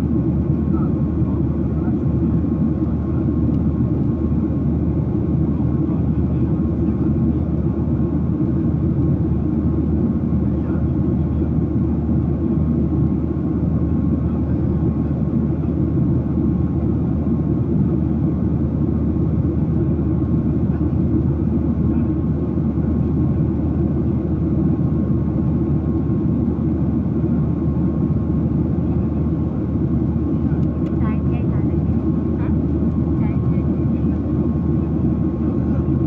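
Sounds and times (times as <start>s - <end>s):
airliner cabin engine rumble: 0.0s - 36.0s
faint steady whine: 0.0s - 36.0s.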